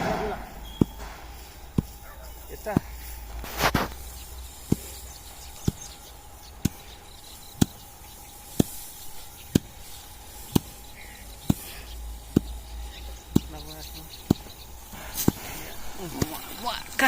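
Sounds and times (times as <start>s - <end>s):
sharp strokes cutting wheat: 0.0s - 17.0s.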